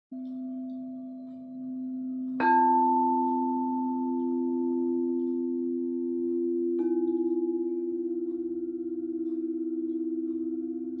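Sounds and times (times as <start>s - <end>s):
singing bowl humming: 0.2s - 11.0s
singing bowl struck and ringing: 0.2s - 11.0s.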